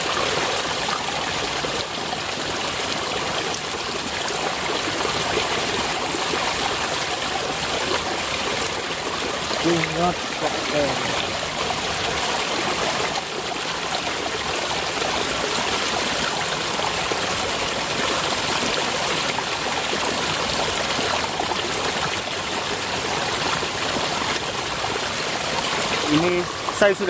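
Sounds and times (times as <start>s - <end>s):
water rushing and trickling: 0.0s - 27.0s.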